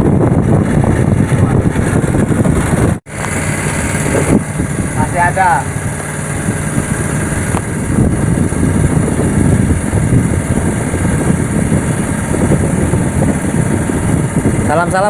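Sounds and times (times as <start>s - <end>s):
engine idling: 0.1s - 15.0s.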